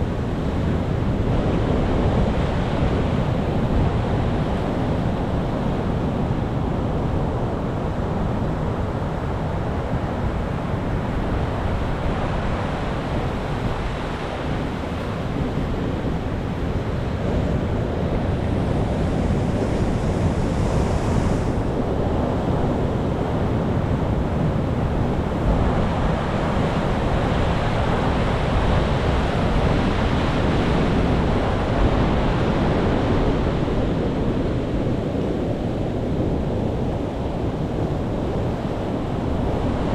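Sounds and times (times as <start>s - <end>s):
ocean waves breaking on shore: 0.0s - 39.9s
wind rumble on microphone: 0.0s - 39.9s.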